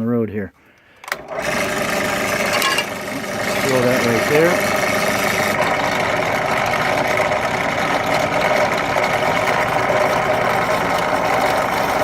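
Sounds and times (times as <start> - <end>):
power drill drilling: 1.1 - 12.0.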